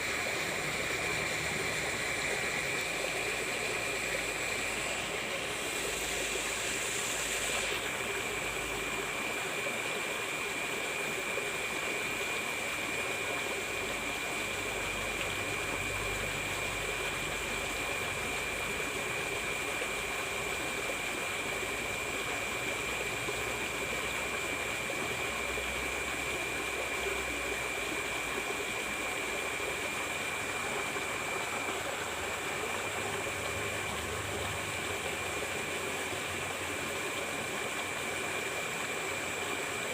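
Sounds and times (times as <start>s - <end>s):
water rushing in a ditch: 0.0s - 39.9s.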